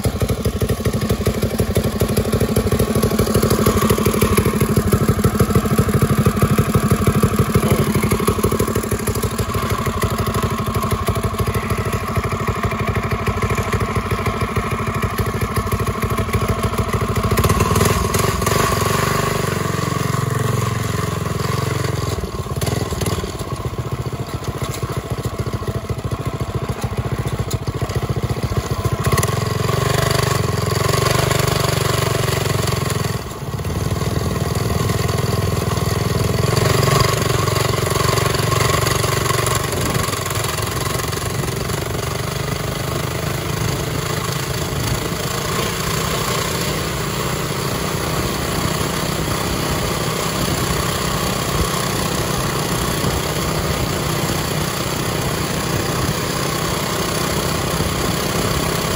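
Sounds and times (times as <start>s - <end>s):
small single-cylinder engine revving: 0.0s - 58.9s.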